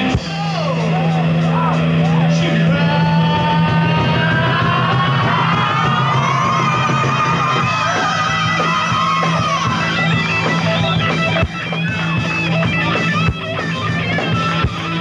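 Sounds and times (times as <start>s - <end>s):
hard musical accents: 0.0s - 15.0s
lead electric guitar: 0.0s - 15.0s.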